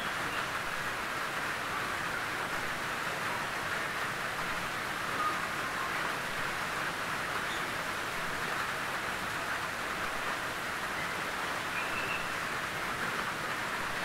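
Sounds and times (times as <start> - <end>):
rain on a tin roof: 0.0 - 14.0.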